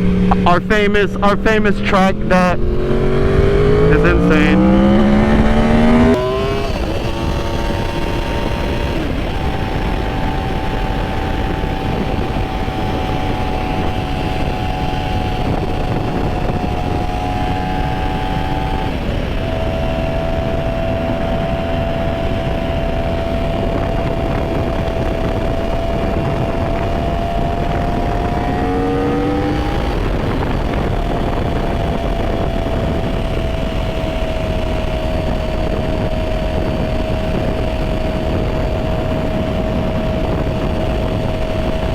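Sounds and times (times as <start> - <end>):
motorcycle engine revving and upshifting: 0.0 - 41.9
wind noise on microphone: 2.0 - 41.9.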